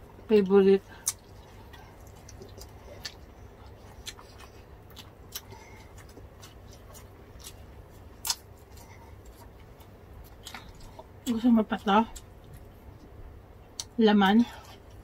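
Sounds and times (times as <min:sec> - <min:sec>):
low steady hum: 0:00.0 - 0:15.0
chewing clicks and crunches: 0:01.0 - 0:13.1.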